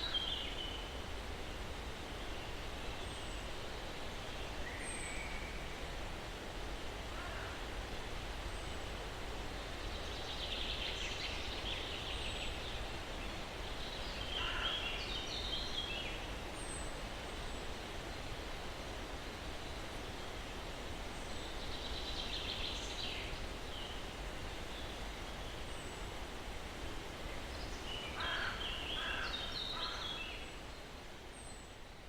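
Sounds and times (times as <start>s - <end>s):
breeze rustling through pine trees: 0.0s - 32.0s.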